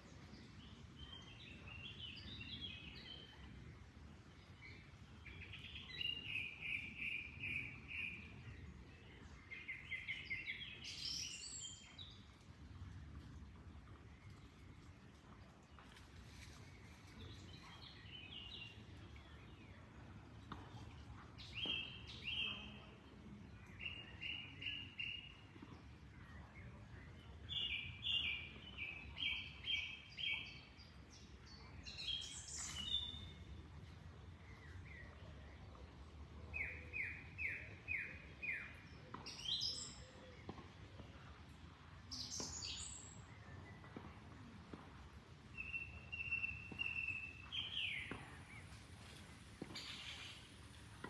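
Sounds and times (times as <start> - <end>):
flowing water: 0.0 - 51.0
songbirds chirping: 0.0 - 51.0.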